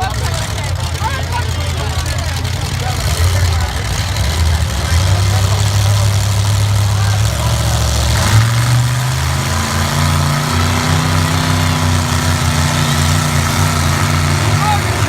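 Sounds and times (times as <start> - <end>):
pickup truck engine revving: 0.0 - 15.0.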